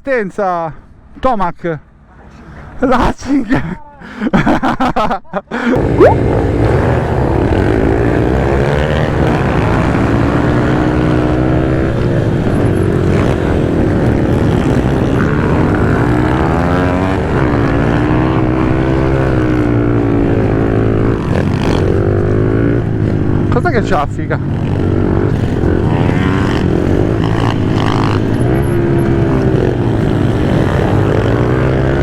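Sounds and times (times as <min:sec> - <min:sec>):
pit bike engines revving: 0:05.8 - 0:32.0.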